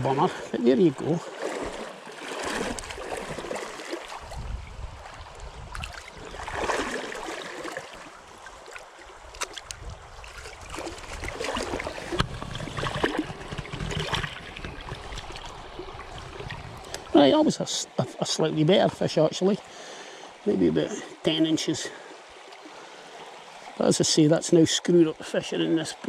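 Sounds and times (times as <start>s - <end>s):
stream water splashing: 0.0s - 26.0s.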